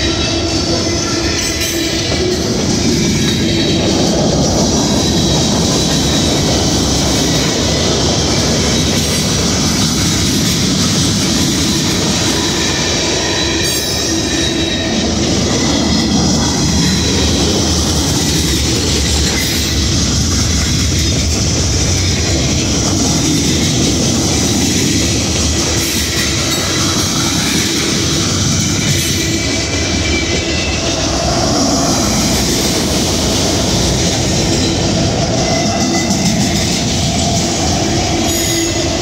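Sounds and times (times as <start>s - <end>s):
train wheels on rails: 0.0s - 39.0s.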